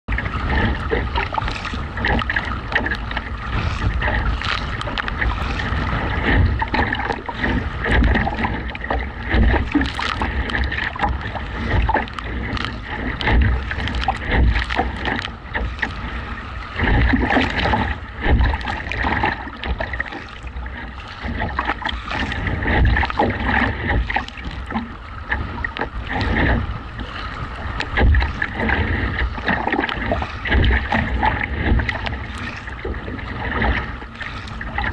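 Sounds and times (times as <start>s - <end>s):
waves slapping boat hull: 0.0s - 34.9s
paddles splashing water: 0.1s - 34.9s
wind buffeting microphone: 0.1s - 34.9s.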